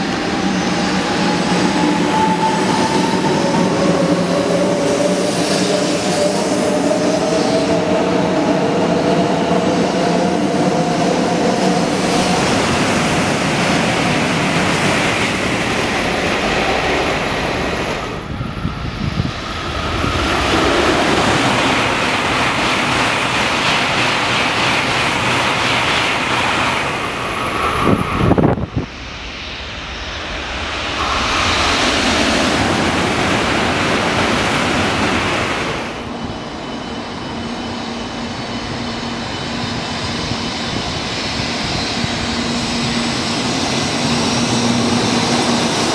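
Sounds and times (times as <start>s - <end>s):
trains rushing past: 0.0s - 45.9s.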